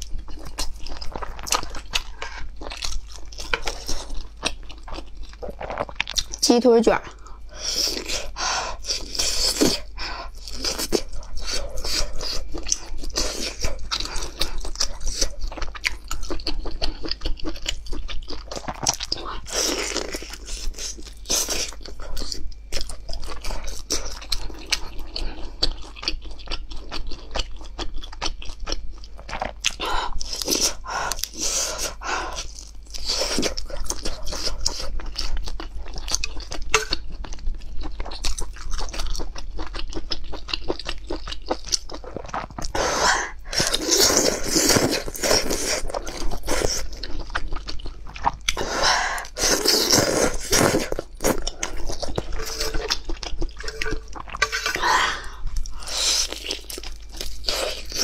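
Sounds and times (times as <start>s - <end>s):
crunchy chewing and biting: 0.0s - 6.4s, 7.2s - 58.0s.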